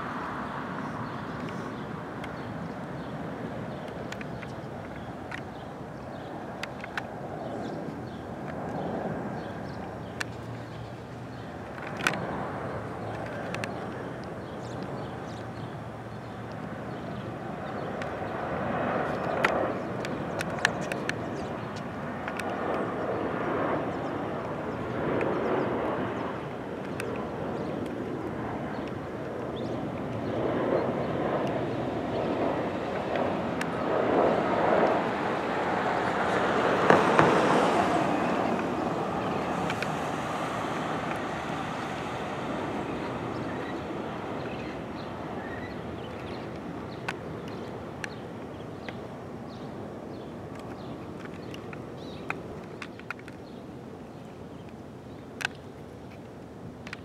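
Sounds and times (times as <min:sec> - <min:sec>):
jet airliner passing by: 0:00.0 - 0:53.5.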